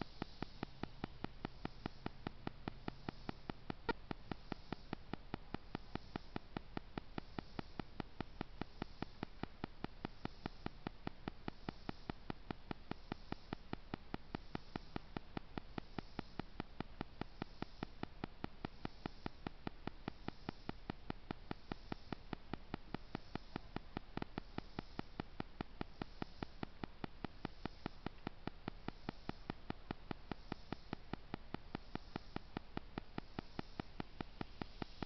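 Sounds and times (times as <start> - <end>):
camera hiss and low hum: 0.0 - 35.0
evenly spaced clicks: 0.0 - 35.0
faint high hiss: 0.0 - 35.0.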